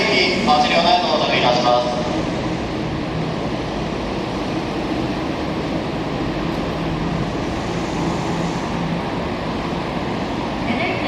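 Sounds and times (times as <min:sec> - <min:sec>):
electric train rolling in: 0:00.0 - 0:11.0.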